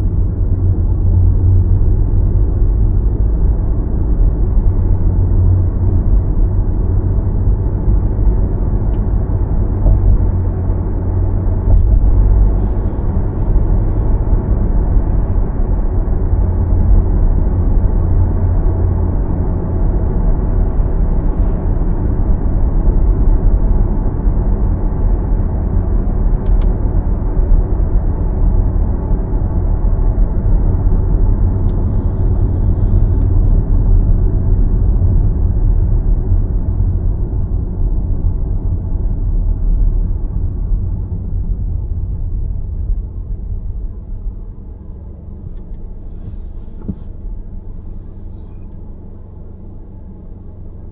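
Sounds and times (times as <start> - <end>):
car road and engine noise: 0.0 - 50.9.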